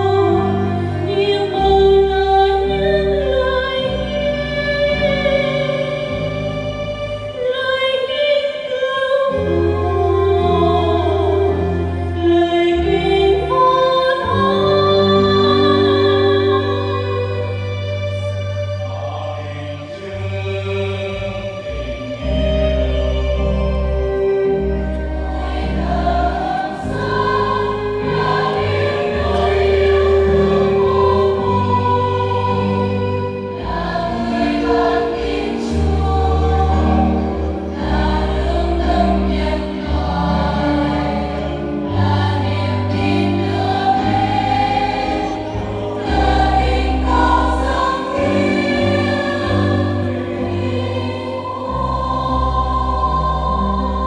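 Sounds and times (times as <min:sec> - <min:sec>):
choir singing a hymn: 0:00.0 - 0:54.0
instrumental accompaniment: 0:00.0 - 0:54.0.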